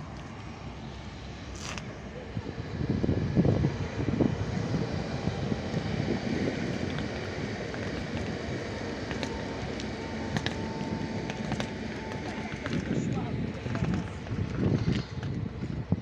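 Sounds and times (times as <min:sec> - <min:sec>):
wind on microphone: 0:01.6 - 0:16.0
train wheels rumbling: 0:02.0 - 0:16.0.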